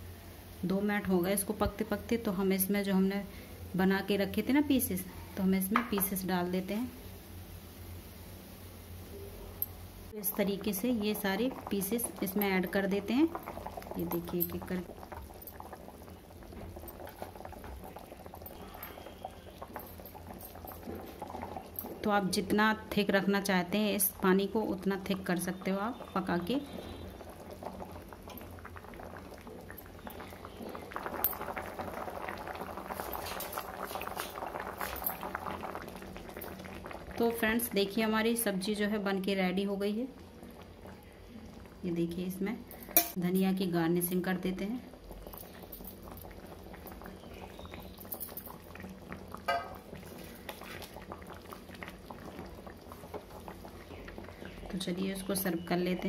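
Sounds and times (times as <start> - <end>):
thick gravy bubbling: 10.0 - 56.0.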